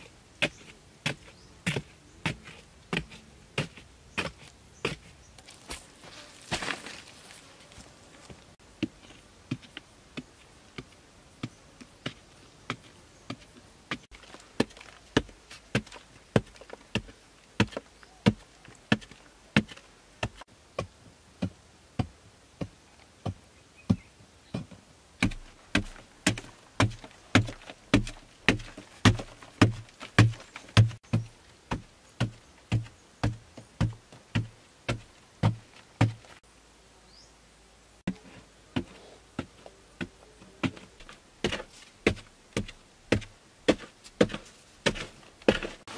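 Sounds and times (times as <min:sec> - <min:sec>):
hand tool digging into packed earth: 0:00.0 - 0:36.4, 0:38.1 - 0:45.9.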